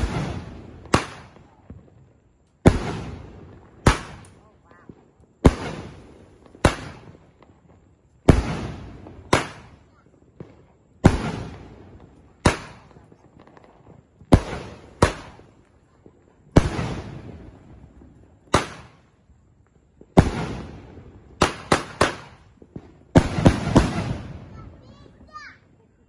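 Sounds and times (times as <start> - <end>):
firework shells bursting with bangs: 0.0 - 19.3, 19.9 - 25.7.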